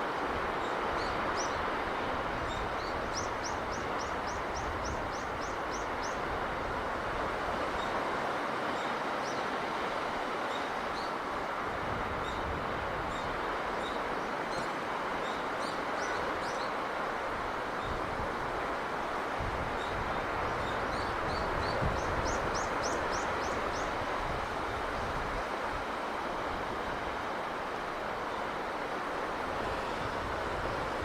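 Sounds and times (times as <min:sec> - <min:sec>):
sea breeze rushing: 0:00.0 - 0:31.0.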